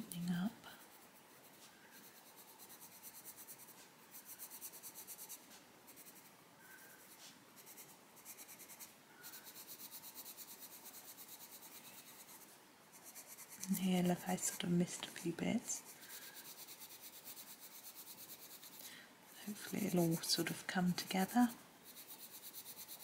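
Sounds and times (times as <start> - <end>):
pencil scribbling on paper: 0.8 - 23.0.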